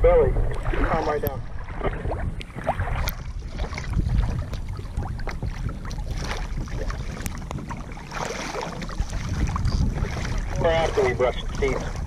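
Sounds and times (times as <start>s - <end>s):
water slapping and splashing: 0.0s - 12.0s
wind buffeting microphone: 0.0s - 12.0s.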